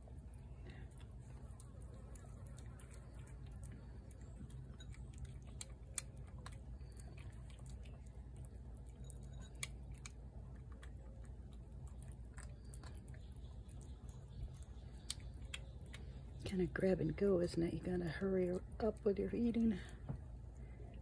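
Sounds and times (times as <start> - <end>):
cat chewing and licking food: 0.0 - 21.0
low background rumble: 0.0 - 21.0.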